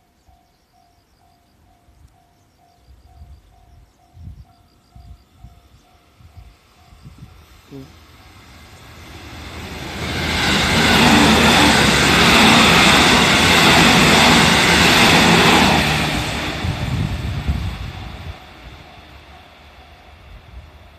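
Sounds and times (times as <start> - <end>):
electric train passing: 0.0 - 20.9.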